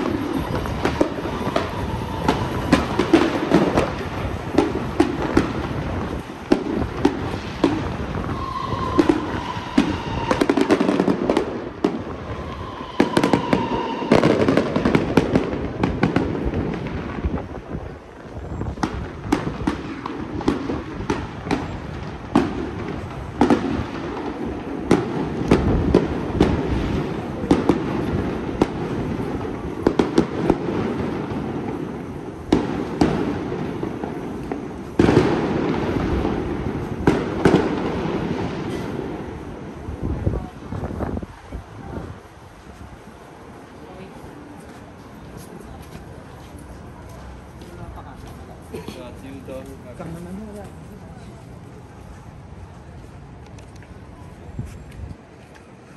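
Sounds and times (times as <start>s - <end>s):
firecrackers banging: 0.0s - 54.1s.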